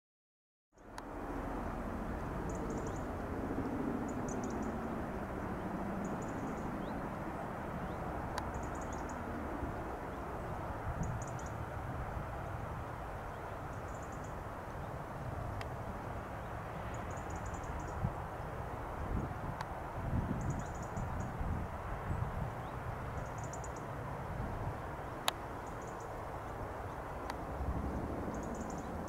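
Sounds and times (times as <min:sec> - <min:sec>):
distant helicopter rotor rumble: 0:00.8 - 0:29.0.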